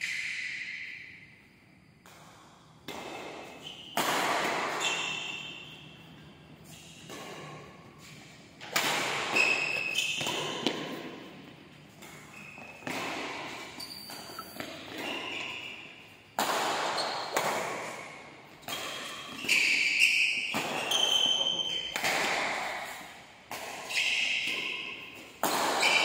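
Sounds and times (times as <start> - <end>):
rackets hitting shuttlecock: 0.0 - 1.2, 2.0 - 26.0
sneakers squeaking on court: 2.9 - 26.0.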